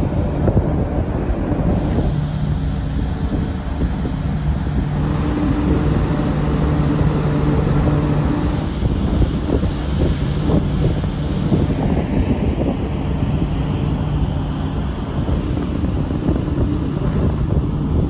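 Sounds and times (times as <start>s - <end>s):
low hum: 0.0s - 18.0s
ship engine drone: 0.0s - 18.0s
wind on microphone: 0.0s - 18.0s.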